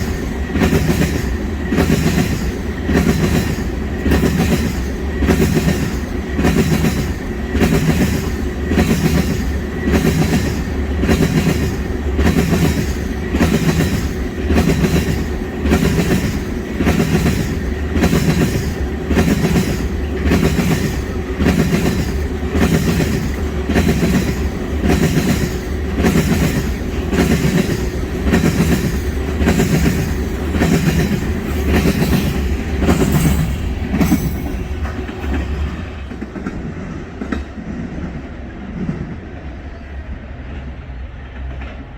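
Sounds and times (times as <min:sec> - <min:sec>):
train rumble: 0:00.0 - 0:41.9.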